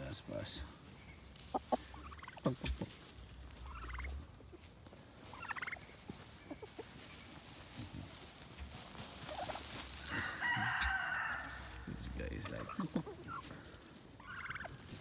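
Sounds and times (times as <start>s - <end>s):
turkey gobbling: 1.2s - 15.0s.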